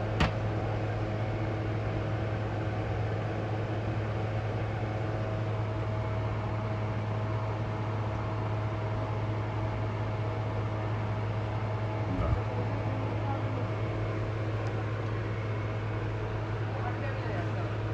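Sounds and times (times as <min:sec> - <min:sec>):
mechanical hum with hiss: 0:00.0 - 0:17.9.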